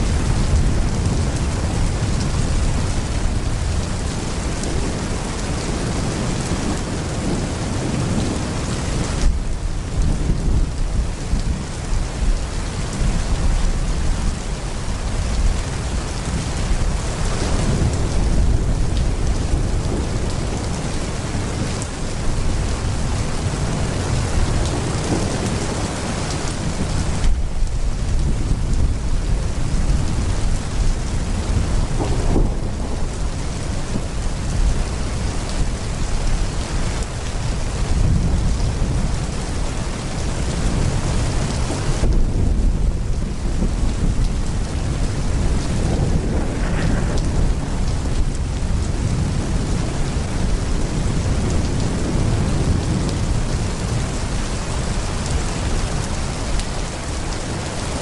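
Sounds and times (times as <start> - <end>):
deep rolling thunder: 0.0 - 58.0
heavy rain pouring: 0.0 - 58.0.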